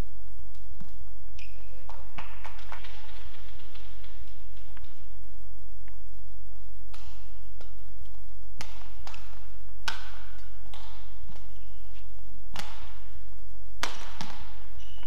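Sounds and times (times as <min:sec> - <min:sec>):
low hall hum: 0:00.0 - 0:15.0
rackets striking shuttlecock: 0:00.5 - 0:05.1, 0:06.8 - 0:15.0.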